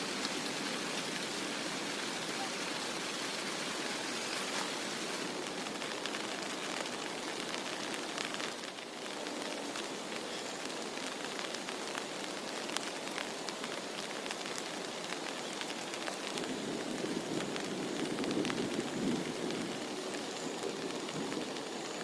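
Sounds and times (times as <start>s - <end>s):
heavy rain: 0.0s - 22.0s
raindrops tapping a surface: 0.0s - 22.0s.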